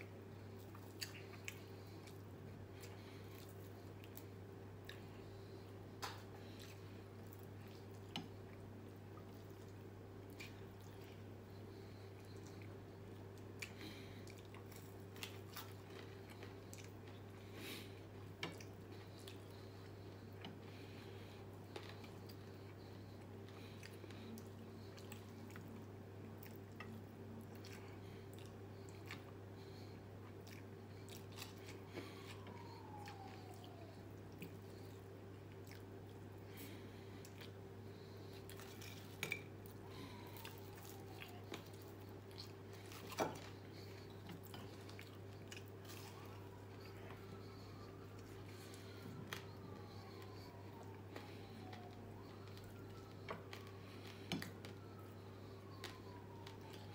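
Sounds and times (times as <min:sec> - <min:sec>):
chewing crispy food: 0:00.0 - 0:56.9
steady low hum: 0:00.0 - 0:56.9.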